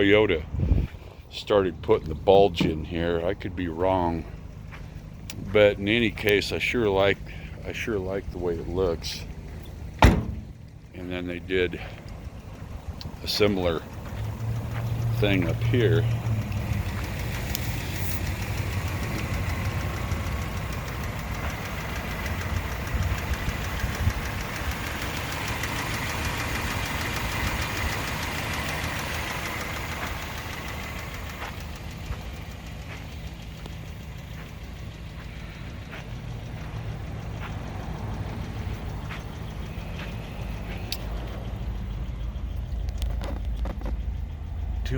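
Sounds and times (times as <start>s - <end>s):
truck engine idling: 0.0s - 44.9s.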